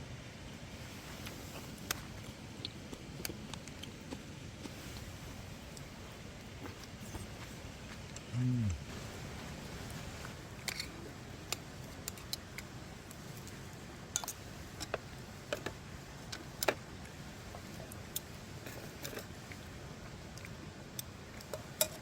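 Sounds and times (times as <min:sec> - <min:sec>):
low steady background noise: 0:00.0 - 0:22.0.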